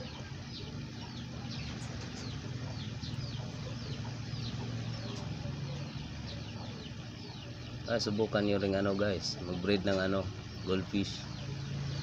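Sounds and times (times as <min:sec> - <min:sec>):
aquarium air pump humming: 0:00.0 - 0:12.0
birds chirping: 0:00.0 - 0:12.0.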